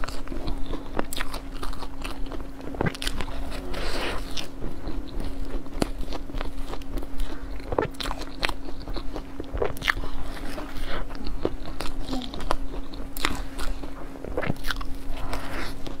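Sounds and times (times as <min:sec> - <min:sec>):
crisp pastry crackling when chewed: 0:00.0 - 0:16.0
steady low hum: 0:00.0 - 0:16.0.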